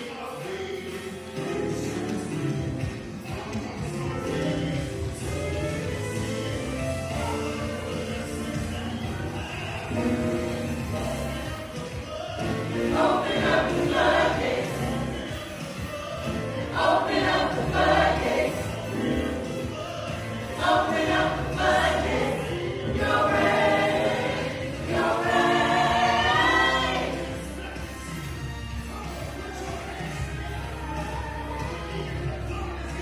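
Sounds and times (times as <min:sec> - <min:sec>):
gospel choir singing: 0:00.0 - 0:33.0.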